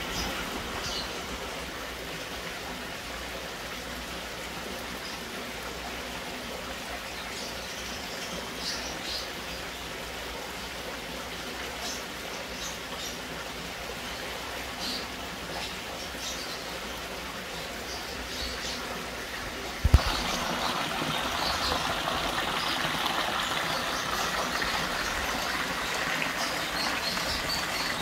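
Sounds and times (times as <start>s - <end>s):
running water in a pond: 0.0s - 28.0s.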